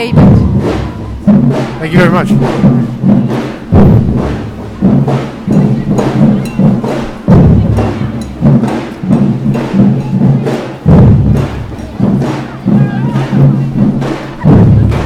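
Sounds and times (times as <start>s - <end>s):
heavy low drum hits: 0.0s - 15.0s
street drums playing: 0.0s - 15.0s.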